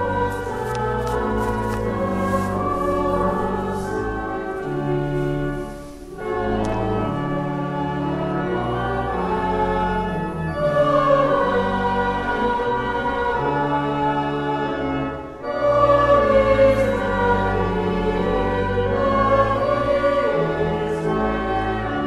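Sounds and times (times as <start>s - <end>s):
choir singing long chords: 0.0s - 22.0s.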